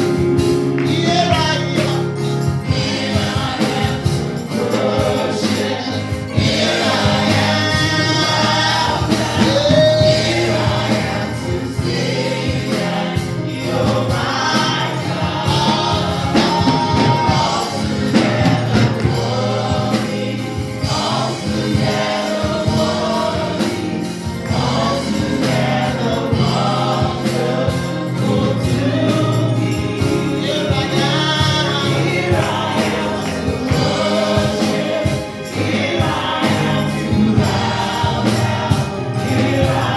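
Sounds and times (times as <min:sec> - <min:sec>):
band with steady beat: 0:00.0 - 0:39.9
choir singing gospel: 0:00.0 - 0:39.9.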